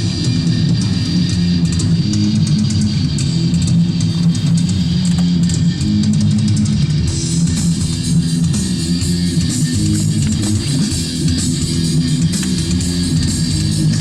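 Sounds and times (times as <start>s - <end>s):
heavy metal music: 0.0s - 14.0s.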